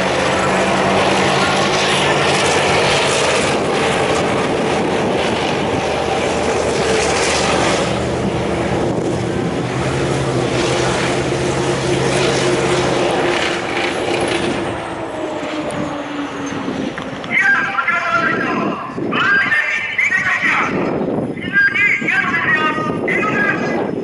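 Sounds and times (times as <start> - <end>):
tank engine hum: 0.0 - 20.0
tank track noise: 0.0 - 24.0.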